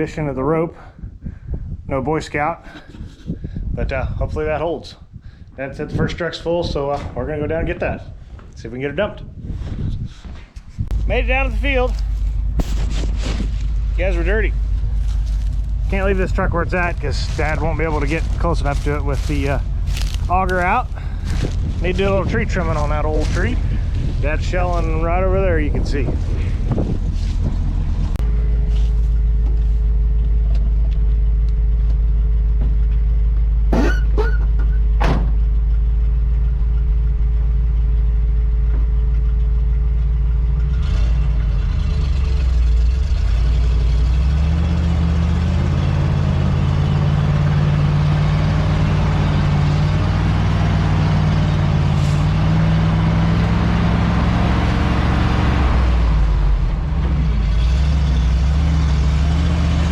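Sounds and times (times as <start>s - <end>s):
truck engine idling and revving: 5.7s - 59.9s.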